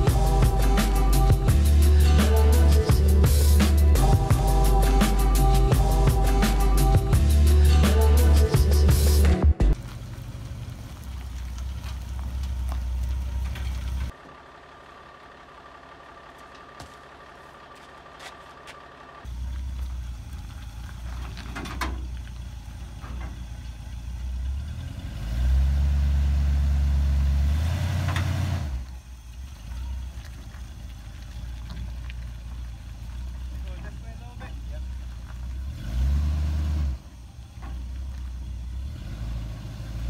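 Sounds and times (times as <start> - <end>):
pickup truck engine running: 0.0 - 40.0.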